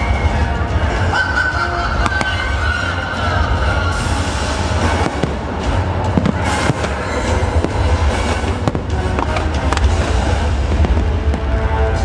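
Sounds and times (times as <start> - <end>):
deep rumble: 0.0 - 12.0
fireworks bangs and crackles: 0.0 - 12.0
show soundtrack music: 0.0 - 12.0.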